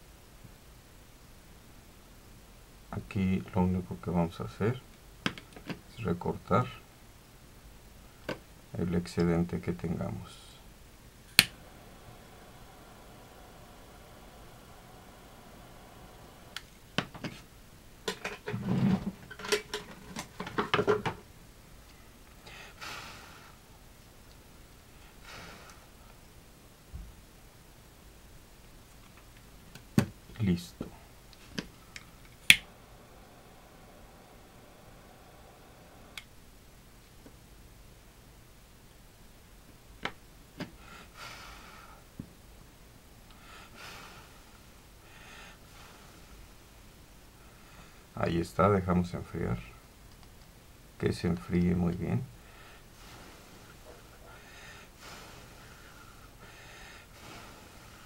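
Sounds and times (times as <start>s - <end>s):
soft hissing: 0.0s - 58.0s.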